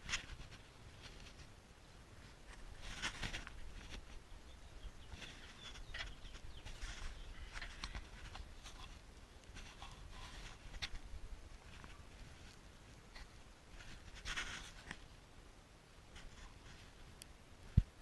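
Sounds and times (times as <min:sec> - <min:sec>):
light clicks and scrapes: 0:00.0 - 0:01.6, 0:02.2 - 0:15.1, 0:16.1 - 0:17.9.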